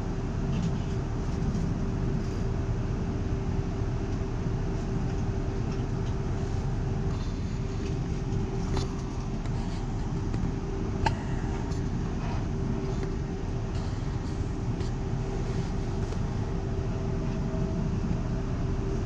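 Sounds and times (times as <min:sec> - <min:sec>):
electric hum: 0:00.0 - 0:19.0
train low rumble: 0:00.0 - 0:19.0.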